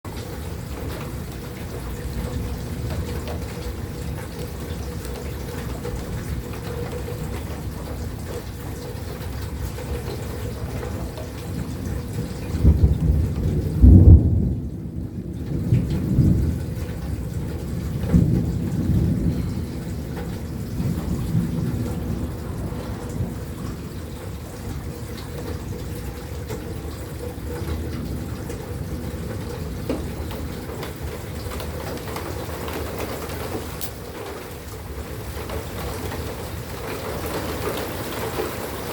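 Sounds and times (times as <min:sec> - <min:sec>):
torrential rain: 0:00.0 - 0:38.9
thunder rumbling: 0:00.1 - 0:38.9.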